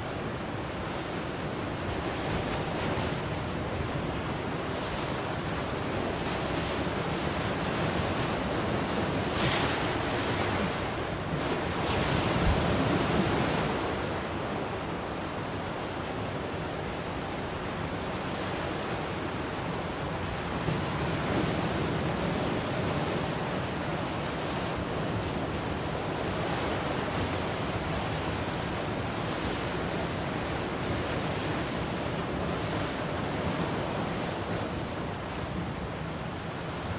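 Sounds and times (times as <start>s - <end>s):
ocean waves breaking on shore: 0.0s - 36.9s.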